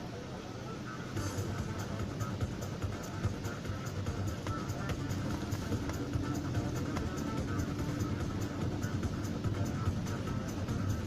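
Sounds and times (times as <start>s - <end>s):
car running noise: 0.0s - 11.0s
electronic music with steady beat: 0.9s - 11.0s.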